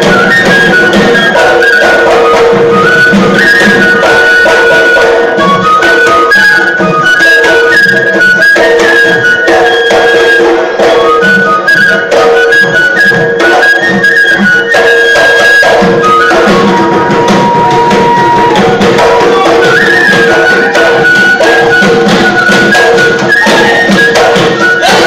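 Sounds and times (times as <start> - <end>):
drums beating: 0.0 - 25.0
wind instrument long notes: 0.0 - 25.0.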